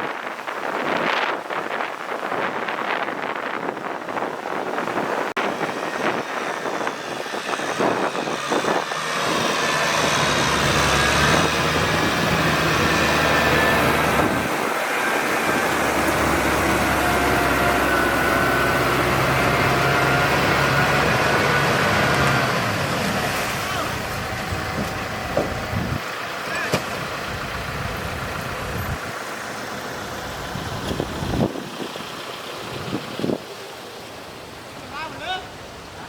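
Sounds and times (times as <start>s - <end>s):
tractor diesel engine running: 5.1s - 34.7s.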